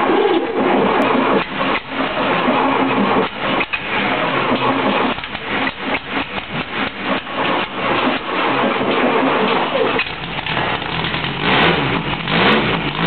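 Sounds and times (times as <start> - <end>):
engine running unevenly: 0.0 - 13.0.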